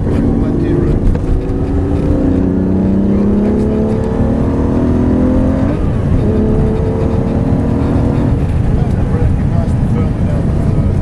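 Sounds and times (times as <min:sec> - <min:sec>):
car engine accelerating hard: 0:00.0 - 0:11.0
gear upshift: 0:00.0 - 0:11.0
low road and wind rumble: 0:00.0 - 0:11.0.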